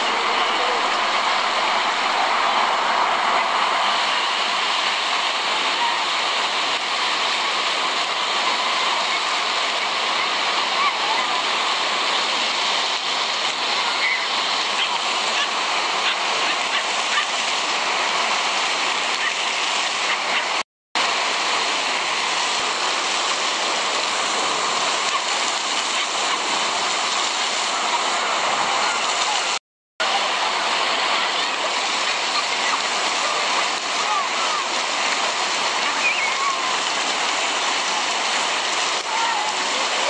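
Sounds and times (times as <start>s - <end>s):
fountain water splashing on paving: 0.0s - 40.0s.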